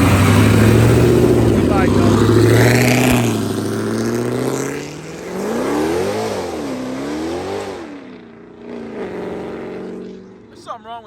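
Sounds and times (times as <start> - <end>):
car accelerating hard: 0.0 - 10.6.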